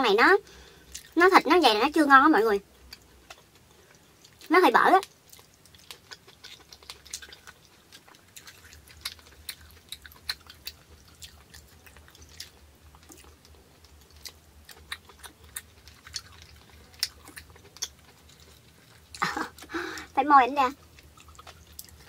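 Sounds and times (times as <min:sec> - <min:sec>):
person chewing: 0:00.6 - 0:01.2, 0:02.8 - 0:20.1, 0:20.8 - 0:22.0.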